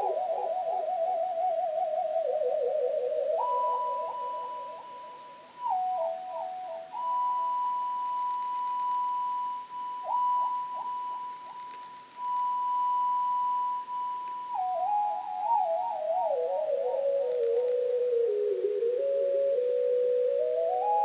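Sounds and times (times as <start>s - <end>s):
high whistle-like electronic tone: 0.0s - 17.8s.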